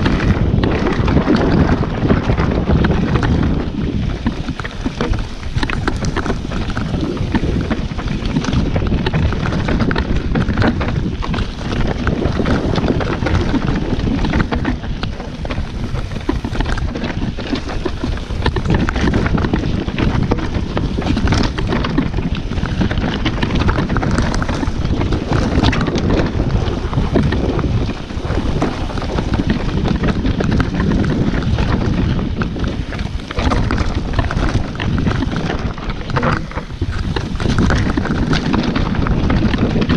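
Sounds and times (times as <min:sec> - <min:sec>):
bike knocking and rattling: 0:00.0 - 0:39.9
bike tyres rolling over gravel: 0:00.0 - 0:39.9
wind on microphone: 0:00.0 - 0:39.9.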